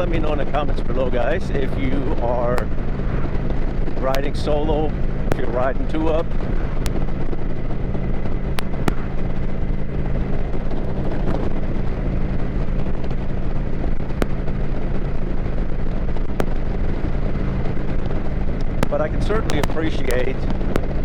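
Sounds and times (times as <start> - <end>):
motorcycle engine cruising: 0.0 - 21.0
wind buffeting microphone: 0.0 - 21.0.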